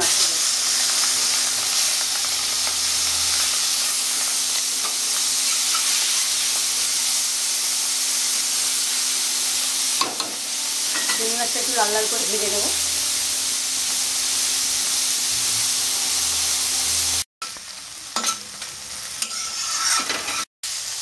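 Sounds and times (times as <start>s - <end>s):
prawns sizzling in hot oil: 0.0s - 21.0s.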